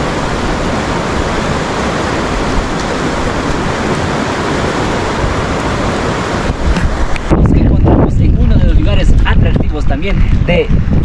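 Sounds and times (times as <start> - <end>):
boiling geyser water rushing: 0.0 - 9.6.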